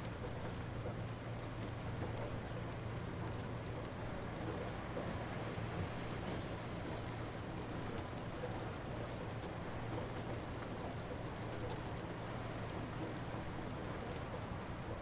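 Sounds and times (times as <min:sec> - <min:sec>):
light rain falling: 0:00.0 - 0:15.0
low continuous rumble: 0:00.0 - 0:15.0.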